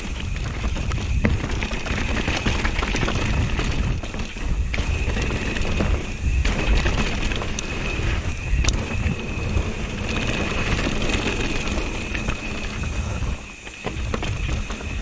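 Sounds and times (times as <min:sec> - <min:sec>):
bike clicks and rattles: 0:00.0 - 0:15.0
tyres rumbling on dirt: 0:00.0 - 0:15.0
wind rushing over microphone: 0:00.0 - 0:15.0.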